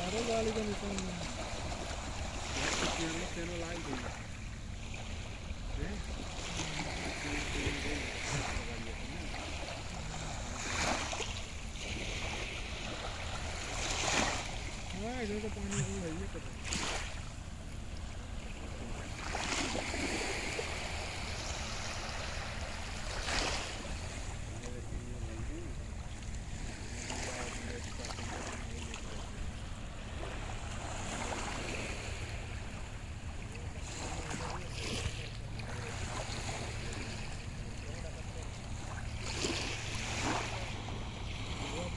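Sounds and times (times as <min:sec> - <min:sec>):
sea waves washing on shore: 0:00.0 - 0:41.9.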